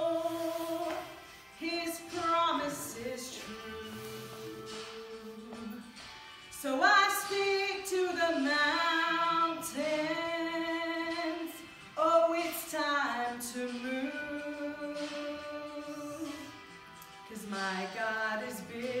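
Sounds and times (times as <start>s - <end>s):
woman singing into a microphone: 0.0s - 5.9s, 6.5s - 16.6s, 17.3s - 19.0s.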